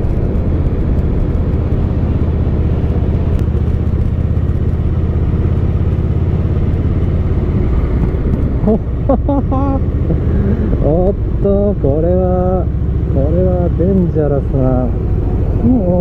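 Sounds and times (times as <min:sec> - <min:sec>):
motorcycle engine and exhaust: 0:00.0 - 0:16.0.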